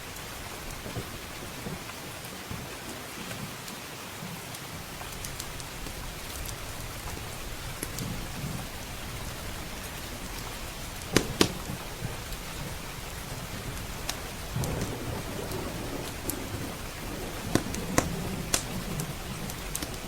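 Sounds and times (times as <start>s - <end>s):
steady rain: 0.0s - 20.0s
wood fire crackling: 0.0s - 20.0s.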